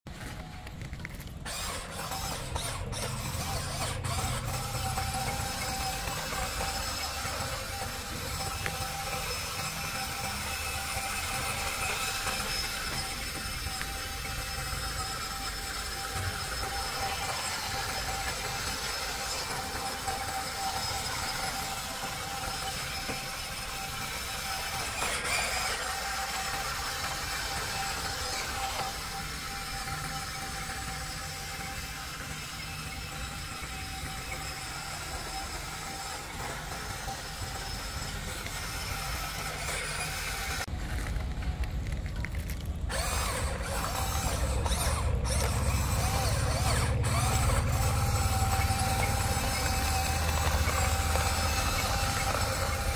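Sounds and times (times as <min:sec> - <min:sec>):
electric motors whirring: 0:00.1 - 0:52.9.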